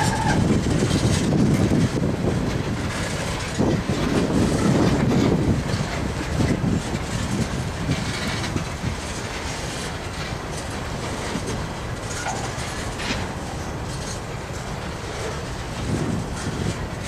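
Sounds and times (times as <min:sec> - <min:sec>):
steel wheels rumbling on rail: 0:00.0 - 0:17.0
wheels clicking over rail joints: 0:00.0 - 0:17.0.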